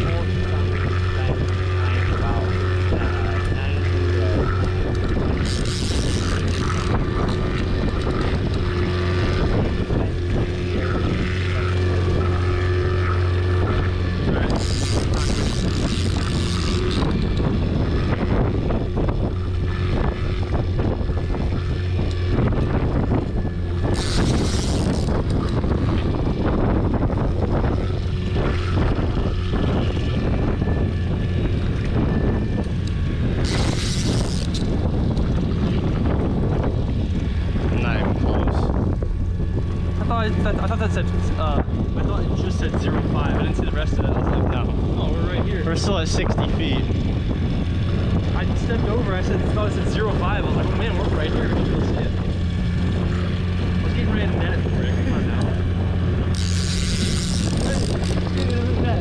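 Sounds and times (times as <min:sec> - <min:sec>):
boat motor humming: 0:00.0 - 0:59.0
wind on microphone: 0:00.0 - 0:59.0.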